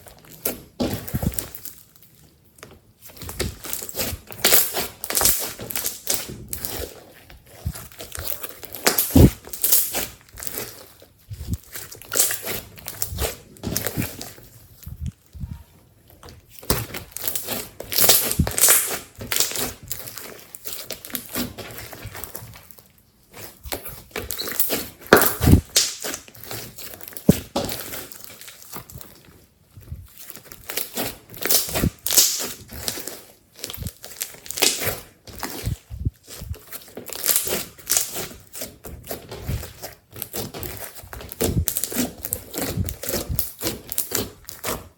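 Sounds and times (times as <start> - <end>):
slime crackling and squishing: 0.0 - 44.9.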